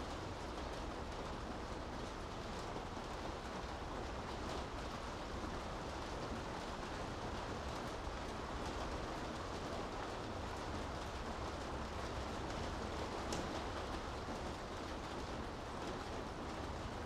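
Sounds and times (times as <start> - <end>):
rain falling on streets: 0.0 - 17.0.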